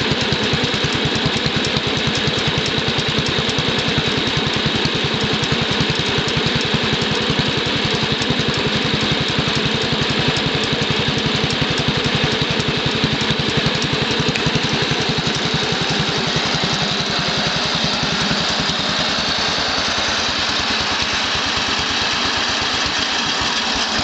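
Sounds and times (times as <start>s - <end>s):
garden tractor engine running: 0.0s - 24.0s.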